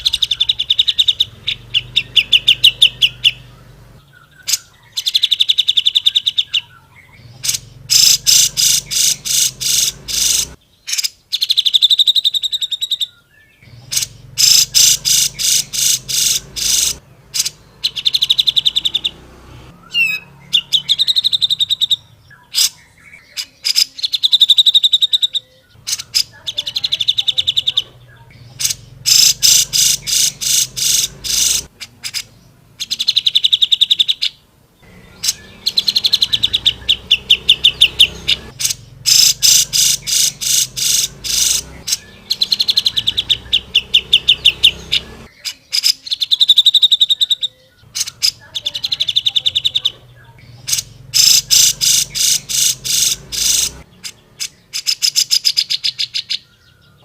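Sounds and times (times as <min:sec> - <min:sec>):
bulbul singing: 0:00.0 - 0:57.0.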